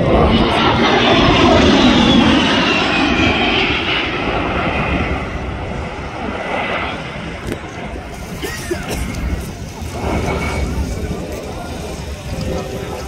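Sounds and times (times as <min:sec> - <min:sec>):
airplane flying past: 0:00.0 - 0:13.0.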